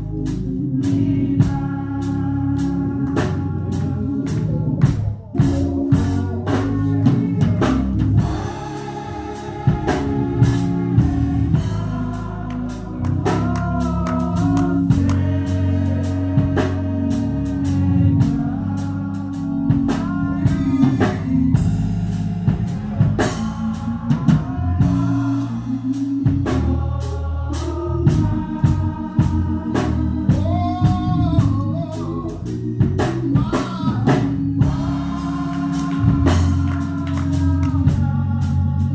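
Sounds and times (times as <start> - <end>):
bass notes: 0.0 - 38.9
drum kit: 0.0 - 38.9
people singing with vibrato: 0.0 - 38.9.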